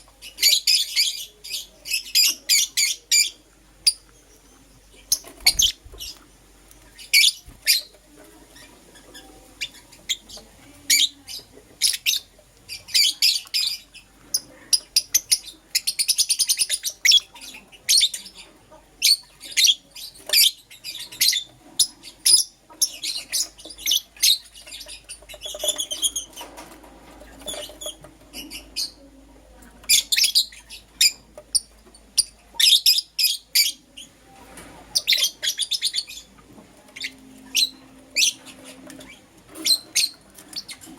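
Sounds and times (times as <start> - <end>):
lovebirds chirping and trilling: 0.0 - 40.9.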